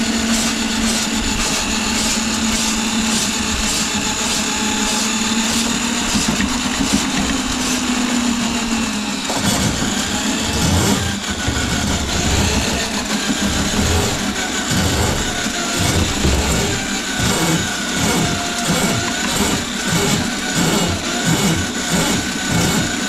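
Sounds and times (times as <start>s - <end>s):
drain snake motor running: 0.0s - 23.0s.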